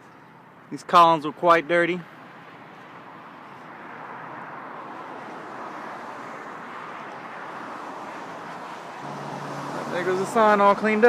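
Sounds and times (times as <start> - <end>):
road traffic rushing by: 0.0 - 11.0.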